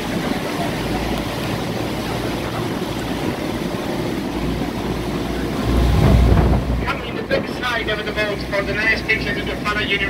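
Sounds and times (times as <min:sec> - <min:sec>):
wind buffeting microphone: 0:00.0 - 0:08.7
boat engine running: 0:00.0 - 0:10.0
water rushing along hull: 0:00.0 - 0:10.0.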